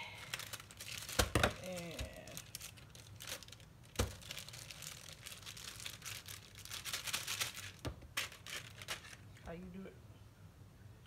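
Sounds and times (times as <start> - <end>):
plastic wrapping crinkling: 0.0 - 9.5.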